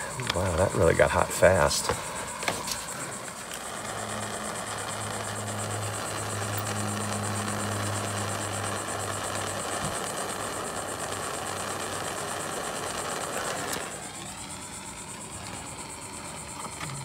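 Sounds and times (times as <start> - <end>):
heat gun blowing air: 1.8 - 16.7.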